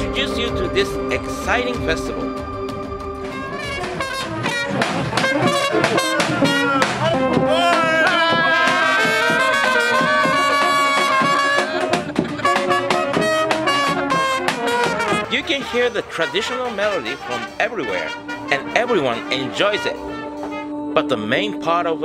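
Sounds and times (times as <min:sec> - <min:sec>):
drum beat: 0:00.0 - 0:20.6
street brass band playing: 0:02.1 - 0:20.9.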